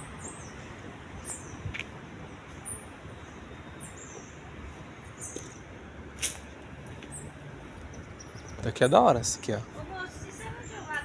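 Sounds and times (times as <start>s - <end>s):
small birds chirping: 0.0s - 5.8s, 6.8s - 11.0s
distant city traffic hum: 0.0s - 11.0s.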